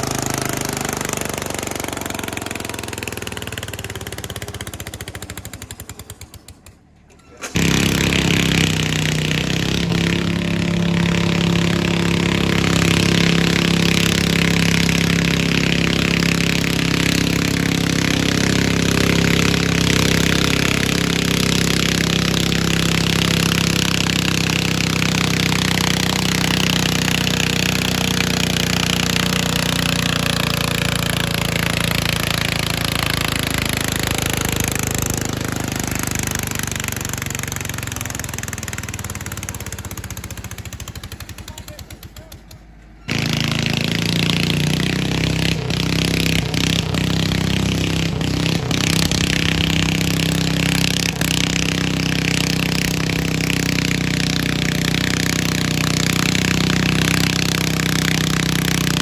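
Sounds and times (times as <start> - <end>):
engine winding down: 0.0 - 59.0
tractor engine running under load: 0.0 - 59.0.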